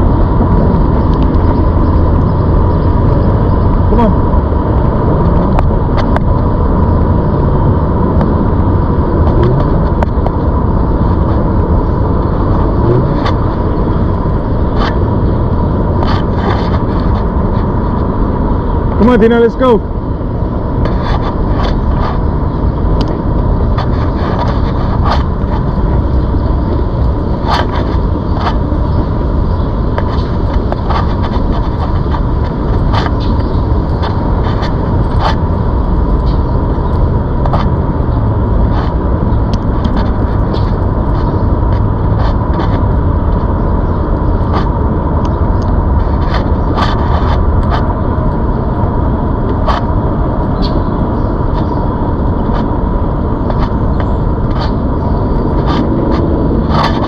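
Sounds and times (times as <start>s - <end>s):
steady high whine: 0.0s - 57.0s
wind rushing over microphone: 0.0s - 57.0s.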